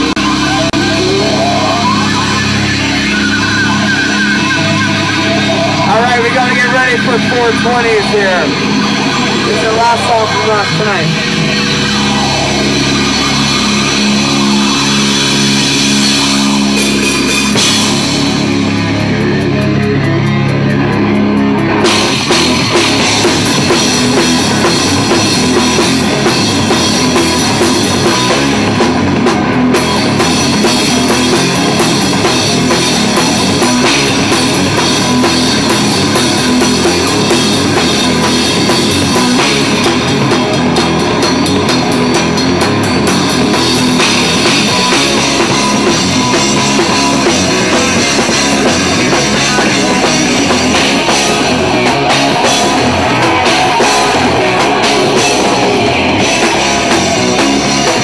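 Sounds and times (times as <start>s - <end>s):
driving drum beat: 0.0s - 58.0s
electric guitars: 0.0s - 58.0s.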